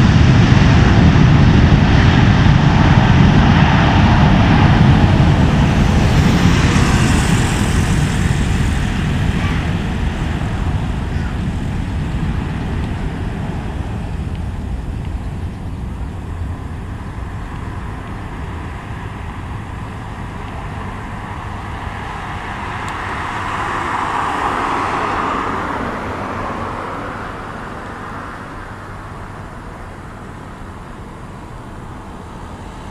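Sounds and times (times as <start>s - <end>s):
jet engines deep rumble: 0.0s - 32.9s.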